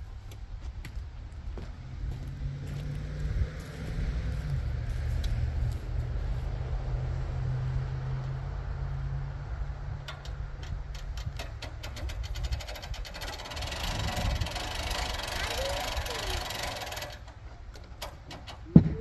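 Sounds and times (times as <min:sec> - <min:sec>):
engine humming: 0:00.0 - 0:19.0
rough bright engine noise: 0:01.6 - 0:19.0.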